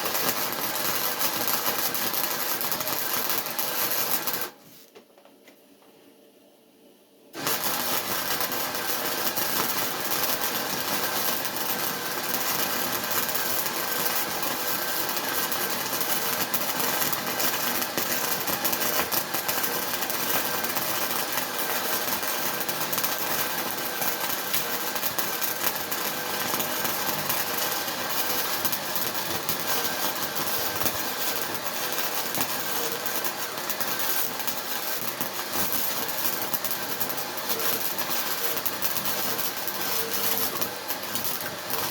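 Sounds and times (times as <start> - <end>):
arc welding crackling hiss: 0.0 - 4.7, 7.4 - 41.9.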